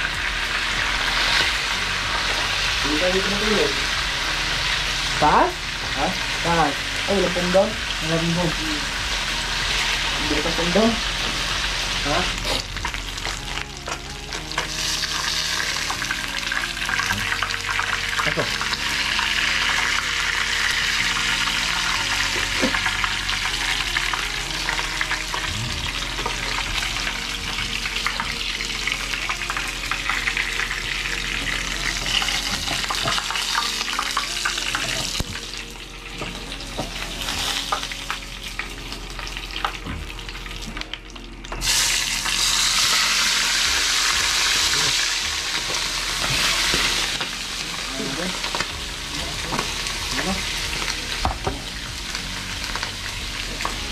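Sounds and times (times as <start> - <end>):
hot oil sizzling and spattering: 0.0 - 53.9.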